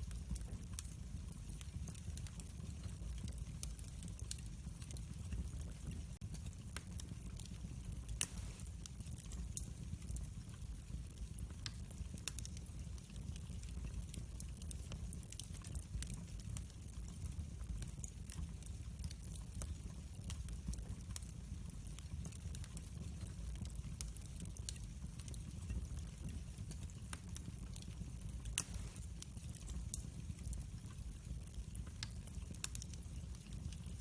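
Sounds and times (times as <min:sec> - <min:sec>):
burning wood crackling and popping: 0:00.0 - 0:34.0
low rumble of flames: 0:00.0 - 0:34.0.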